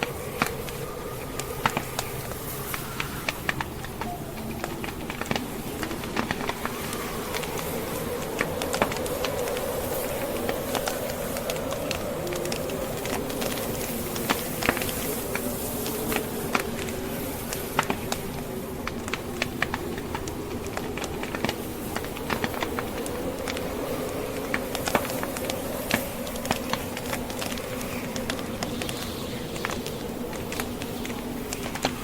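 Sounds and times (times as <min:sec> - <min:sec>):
blizzard wind howling: 0:00.0 - 0:32.0
log fire crackling: 0:00.0 - 0:32.0.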